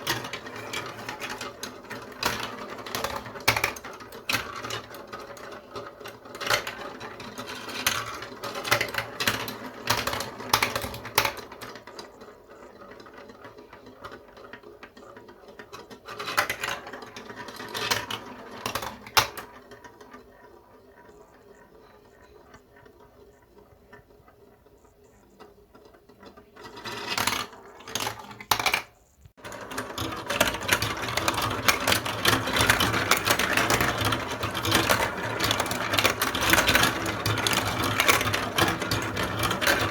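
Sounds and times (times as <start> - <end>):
marbles rolling and clacking: 0.0 - 39.9.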